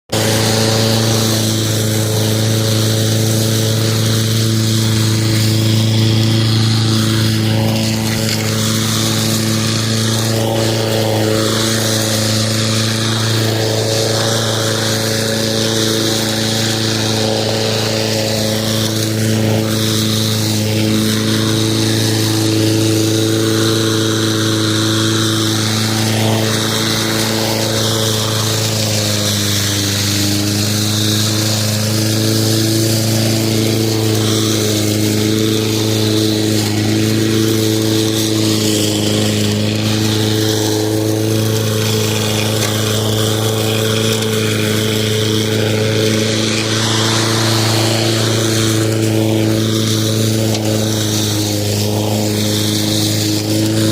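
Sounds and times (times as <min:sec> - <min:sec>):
lawn mower running: 0:00.0 - 0:53.9.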